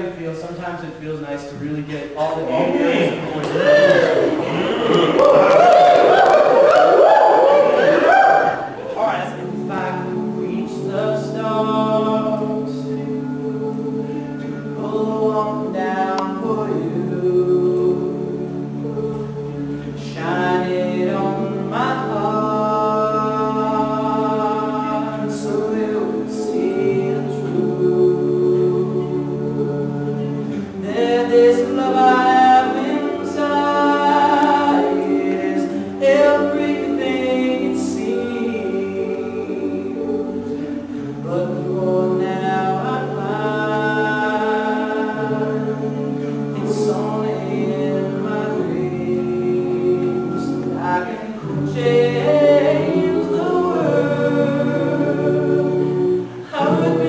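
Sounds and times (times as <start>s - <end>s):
men singing a cappella harmony: 2.2s - 57.0s.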